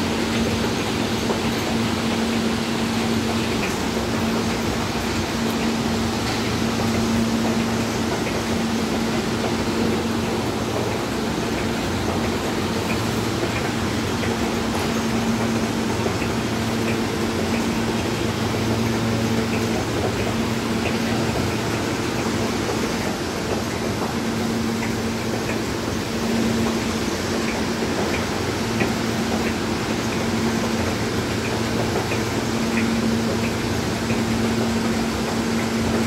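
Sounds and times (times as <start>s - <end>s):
subway train humming: 0.0s - 36.0s.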